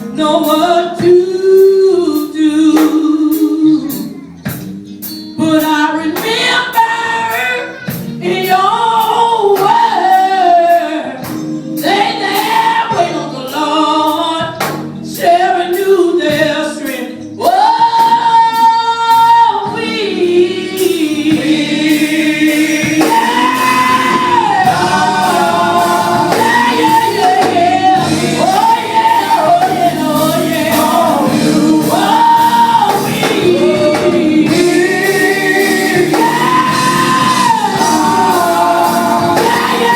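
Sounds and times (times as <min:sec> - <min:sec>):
gospel singing with music: 0:00.0 - 0:39.9.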